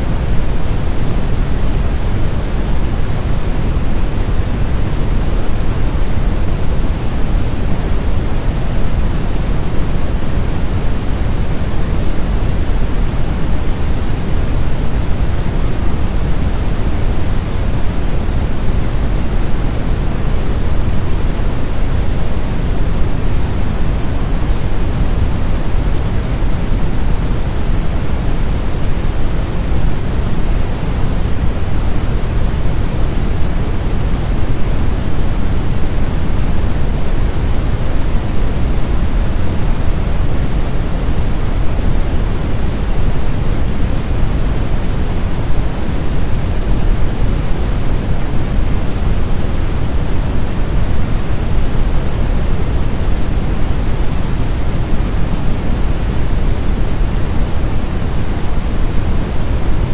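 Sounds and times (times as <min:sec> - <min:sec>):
deep brown noise: 0:00.0 - 0:59.9.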